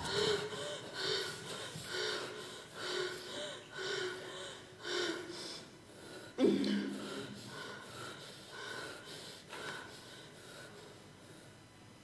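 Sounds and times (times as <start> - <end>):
person gasping breaths: 0.0 - 11.7.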